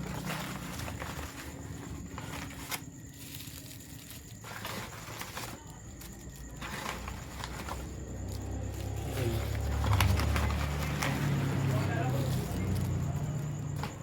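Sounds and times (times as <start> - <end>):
packaging rustling and clicking: 0.0 - 14.0.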